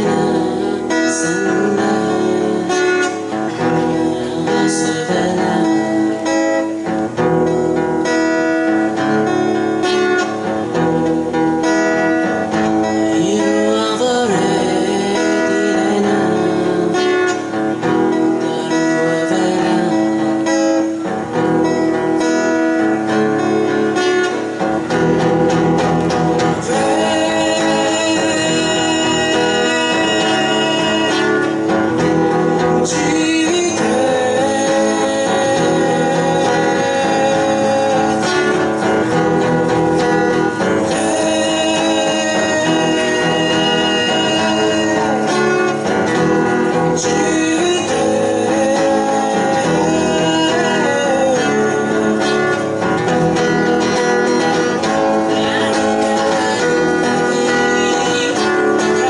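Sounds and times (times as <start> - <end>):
man singing into microphone: 0.0 - 7.0, 9.8 - 21.8, 25.4 - 59.0
acoustic guitars strummed: 0.0 - 59.0.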